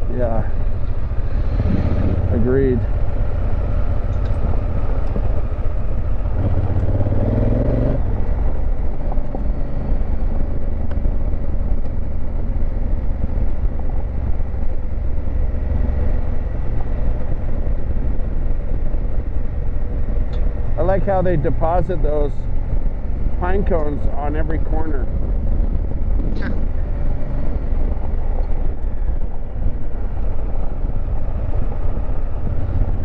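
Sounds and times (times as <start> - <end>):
motorcycle engine running: 0.0 - 33.0
wind: 0.0 - 33.0.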